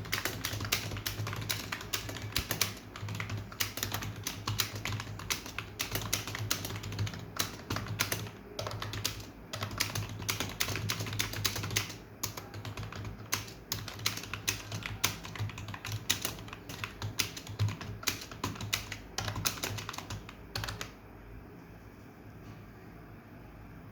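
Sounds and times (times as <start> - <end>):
fast typing on keyboard: 0.0 - 21.0.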